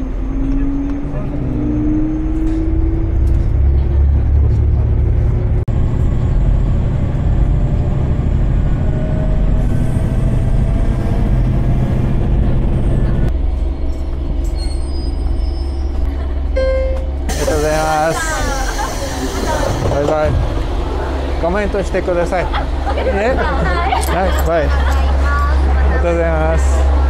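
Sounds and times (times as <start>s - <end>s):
railcar engine and wheels rumbling: 0.0s - 27.0s.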